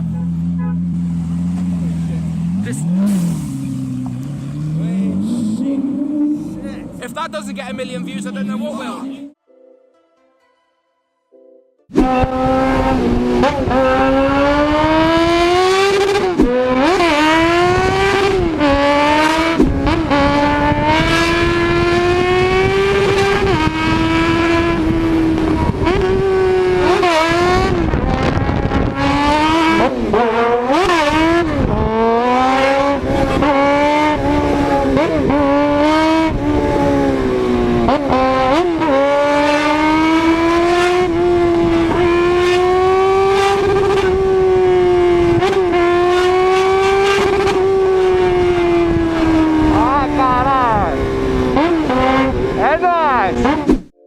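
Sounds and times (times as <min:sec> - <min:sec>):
race car engine revving: 0:00.0 - 0:09.4, 0:11.9 - 0:53.9.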